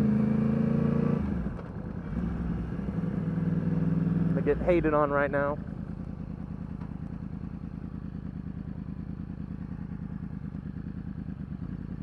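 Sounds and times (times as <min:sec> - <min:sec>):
motorcycle engine idling: 0:01.4 - 0:12.0.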